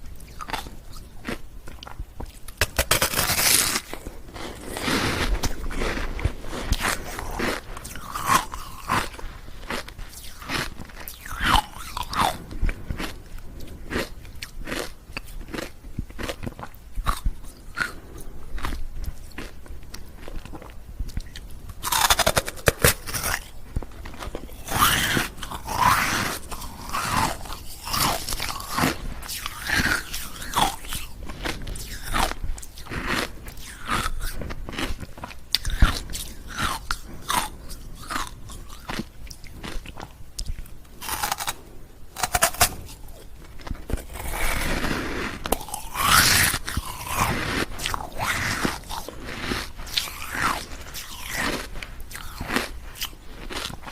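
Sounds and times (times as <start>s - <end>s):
ice cubes being chewed: 0.0s - 53.9s.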